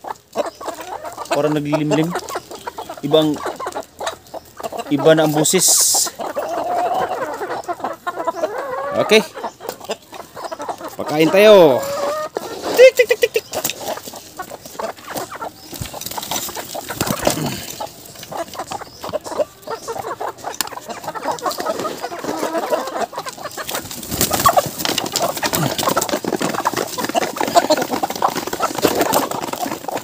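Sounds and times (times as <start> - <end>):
hens clucking and squawking: 0.0 - 30.0.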